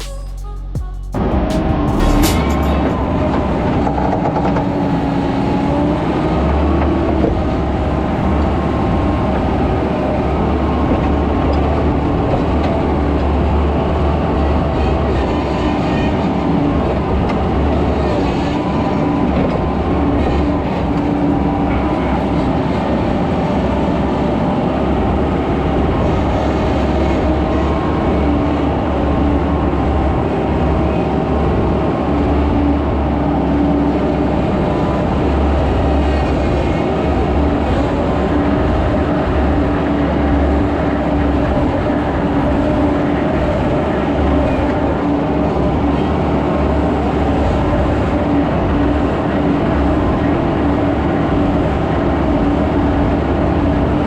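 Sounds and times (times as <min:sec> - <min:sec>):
skid steer engine drone: 0:00.0 - 0:54.0.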